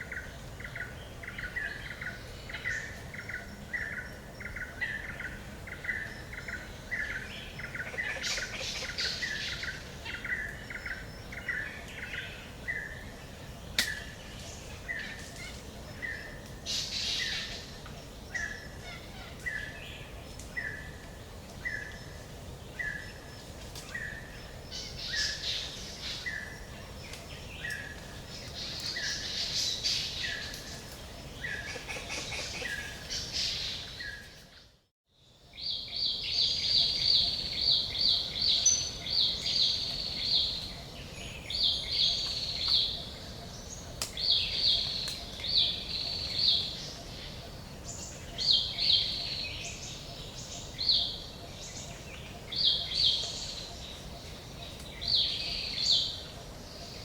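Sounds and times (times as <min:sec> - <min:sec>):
songbirds calling: 0:00.0 - 0:57.0
steady background hiss: 0:00.0 - 0:57.0.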